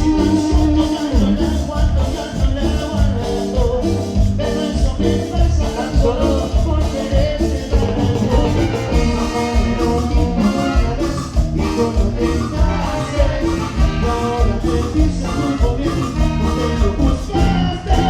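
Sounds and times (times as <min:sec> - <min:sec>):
cumbia band beat: 0:00.0 - 0:18.0
keyboard melody: 0:00.0 - 0:18.0.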